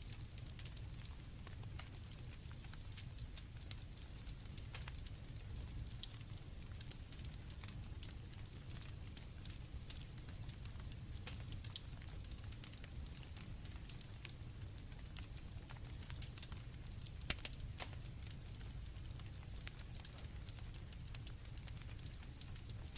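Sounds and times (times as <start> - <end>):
campfire crackling: 0.0 - 22.9
crickets chirping: 0.0 - 22.9.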